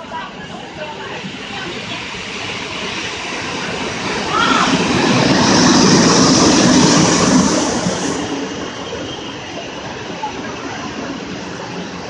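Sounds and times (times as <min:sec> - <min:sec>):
locomotive passing with hissing rush: 0:00.0 - 0:12.0
train coaches rumbling past: 0:00.0 - 0:12.0.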